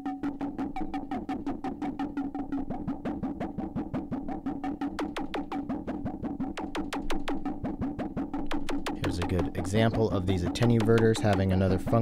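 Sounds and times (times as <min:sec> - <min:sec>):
synth noise percussion hits: 0:00.2 - 0:12.0.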